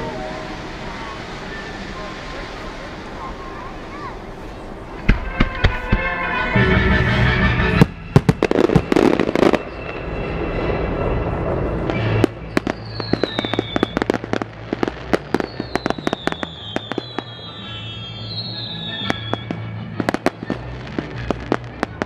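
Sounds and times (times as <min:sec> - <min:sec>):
firework crackles: 0:00.0 - 0:06.6, 0:07.7 - 0:22.0
fireworks bangs: 0:00.0 - 0:22.0.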